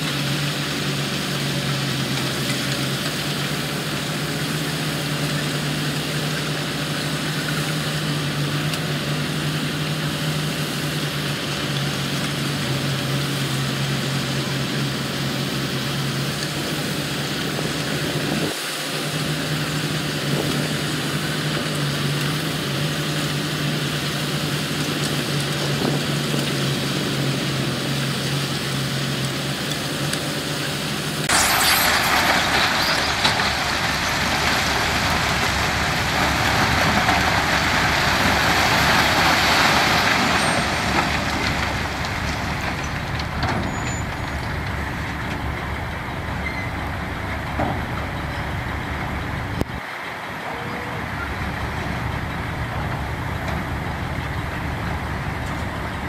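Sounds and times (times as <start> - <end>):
diesel machinery engine drone: 0.0 - 56.0
loud noisy machine: 0.0 - 56.0.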